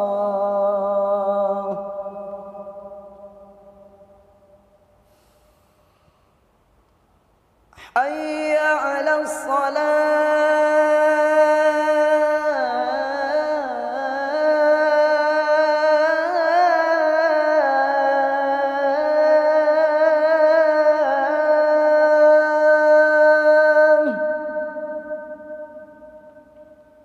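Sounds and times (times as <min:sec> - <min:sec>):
man singing call to prayer: 0:00.0 - 0:03.6, 0:07.9 - 0:26.7.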